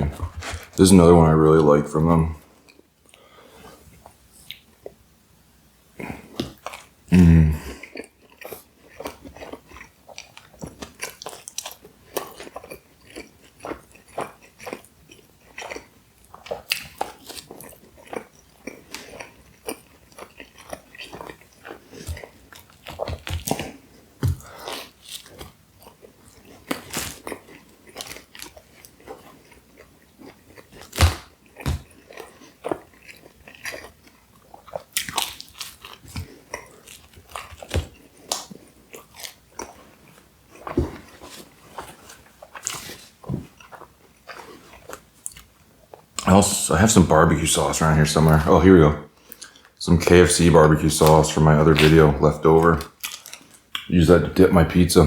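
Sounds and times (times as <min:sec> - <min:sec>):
chewing and biting pizza: 0:00.0 - 0:01.0, 0:06.0 - 0:54.0.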